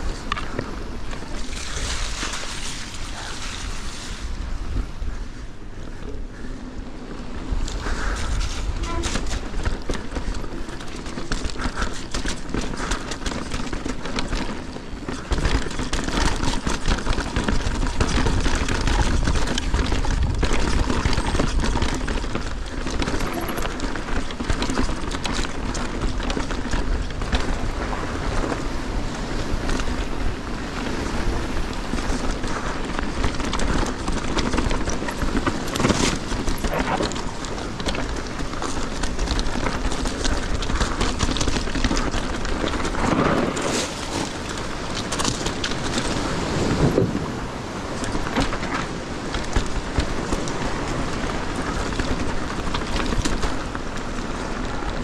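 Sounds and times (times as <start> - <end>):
bike rattling and clicking: 0.0 - 55.0
tyres on dirt and gravel: 0.0 - 55.0
wind buffeting microphone: 0.0 - 55.0.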